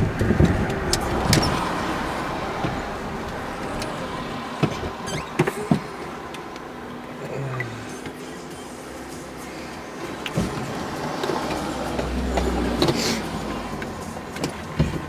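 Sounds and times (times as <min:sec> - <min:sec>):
car running on road: 0:00.0 - 0:15.0.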